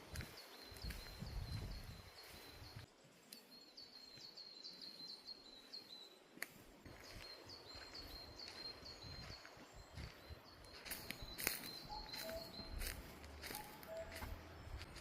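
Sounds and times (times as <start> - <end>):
quiet outdoor ambience: 0.0 - 15.0
faint bird chirps: 0.1 - 6.3, 6.9 - 14.8.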